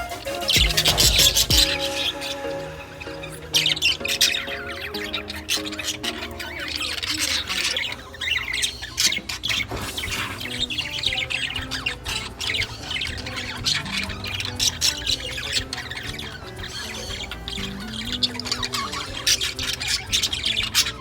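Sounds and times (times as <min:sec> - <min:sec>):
budgerigars chattering and squawking: 0:00.0 - 0:21.0.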